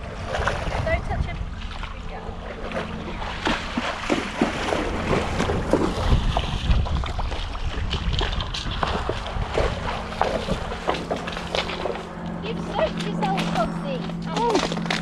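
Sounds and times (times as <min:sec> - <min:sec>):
pony sloshing through water: 0:00.0 - 0:15.0
wind rumbling on microphone: 0:00.0 - 0:15.0.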